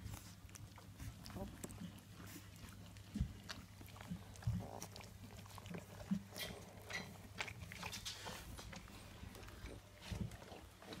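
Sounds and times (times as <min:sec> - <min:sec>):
puppies grunting and squeaking: 0:00.0 - 0:11.0
puppies snuffling and mouthing: 0:00.0 - 0:11.0.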